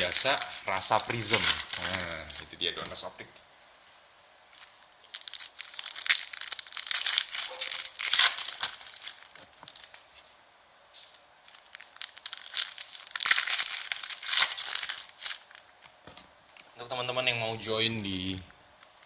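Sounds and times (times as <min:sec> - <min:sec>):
plastic wrapping crinkling and tearing: 0:00.0 - 0:03.1, 0:04.5 - 0:10.2, 0:11.0 - 0:16.8, 0:18.0 - 0:19.0.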